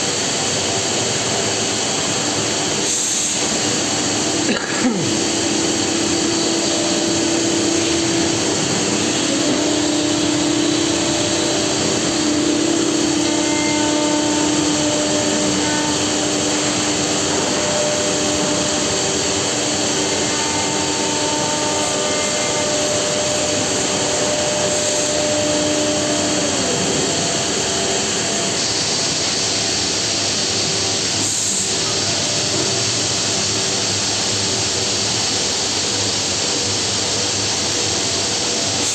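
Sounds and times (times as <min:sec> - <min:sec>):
cnc machine hiss and whine: 0:00.0 - 0:38.9.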